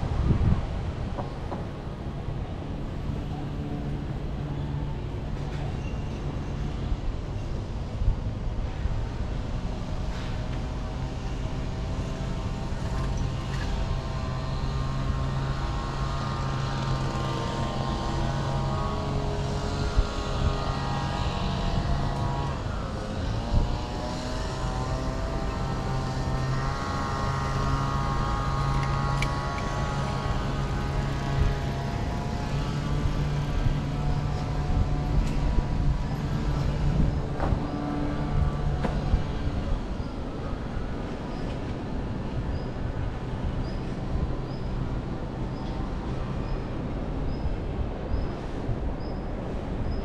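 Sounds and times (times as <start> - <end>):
road traffic engines humming: 0.0 - 50.0.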